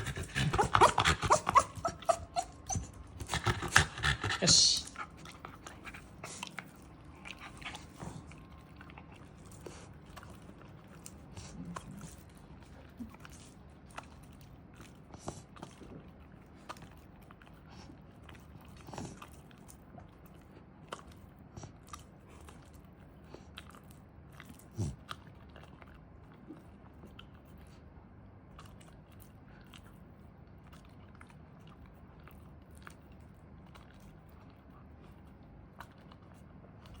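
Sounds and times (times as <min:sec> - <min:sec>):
dog chewing food: 0:00.0 - 0:37.0.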